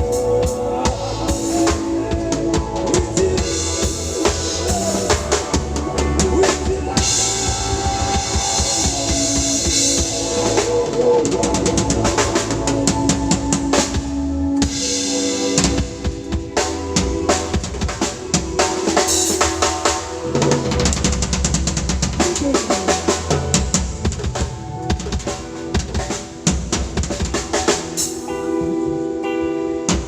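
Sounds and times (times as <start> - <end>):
held chords: 0.0 - 30.0
reggae band playing live: 0.0 - 30.0.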